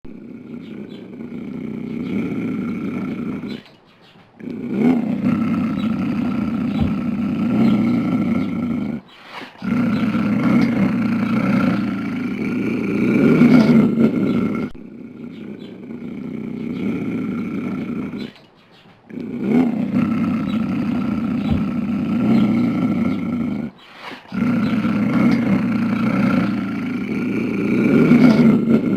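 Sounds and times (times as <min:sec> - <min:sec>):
mountain lion growling: 0:00.1 - 0:03.8, 0:04.4 - 0:18.5, 0:19.1 - 0:28.9.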